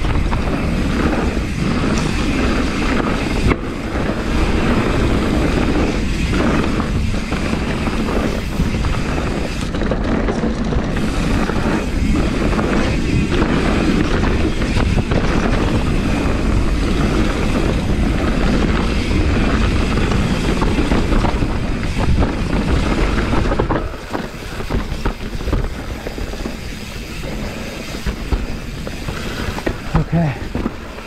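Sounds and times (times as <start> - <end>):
bike rattling: 0.0 - 31.0
bike tyres on dirt: 0.0 - 31.0
wind on microphone: 0.0 - 31.0.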